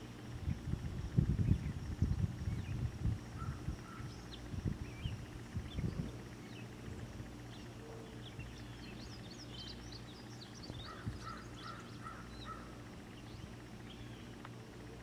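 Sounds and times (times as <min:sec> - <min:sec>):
faint low hum: 0:00.0 - 0:15.0
birds chirping: 0:00.2 - 0:15.0.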